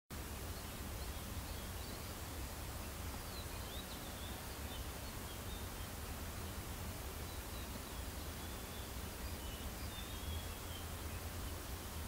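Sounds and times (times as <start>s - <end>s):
steady hiss: 0.1s - 12.0s
faint bird chirps: 0.2s - 12.0s.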